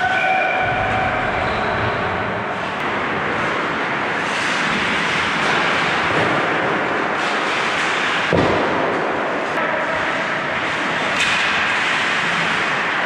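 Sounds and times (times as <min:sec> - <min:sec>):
hockey sticks hitting puck: 0:00.1 - 0:13.0.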